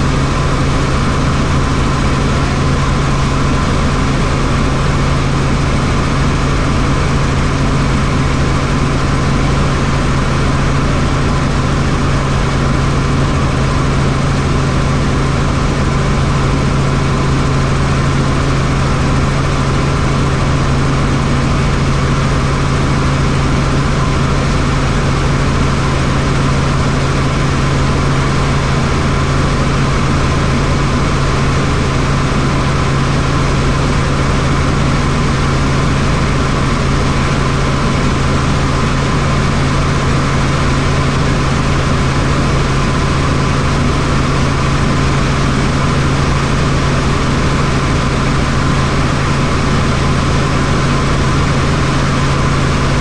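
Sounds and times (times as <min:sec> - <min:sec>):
helicopter engine and rotors: 0:00.0 - 0:53.0.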